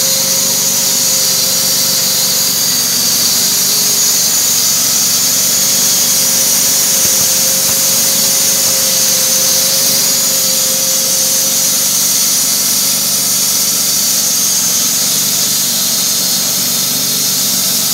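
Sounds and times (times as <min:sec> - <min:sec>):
band sawmill cutting log: 0:00.0 - 0:17.9.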